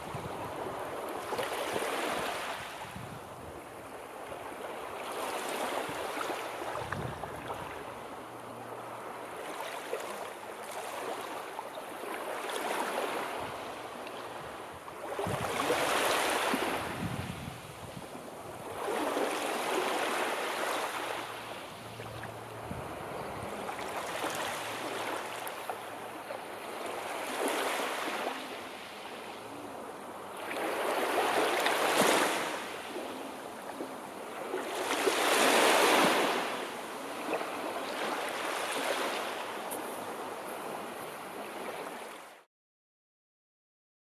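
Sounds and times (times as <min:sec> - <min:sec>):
sea waves washing ashore: 0:00.0 - 0:42.5.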